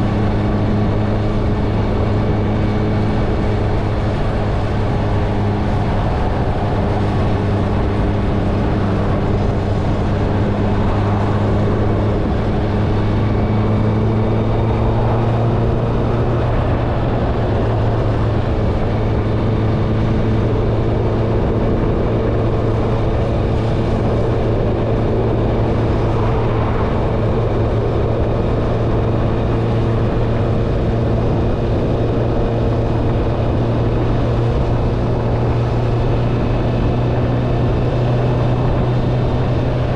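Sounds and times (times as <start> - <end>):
motorcycle engine cruising: 0.0 - 39.9
rushing noise: 0.0 - 39.9.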